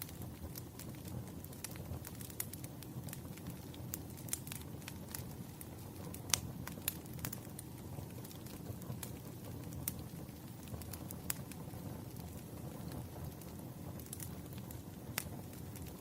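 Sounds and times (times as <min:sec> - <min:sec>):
bonfire crackling and popping: 0:00.0 - 0:16.0
low rumble of burning: 0:00.0 - 0:16.0.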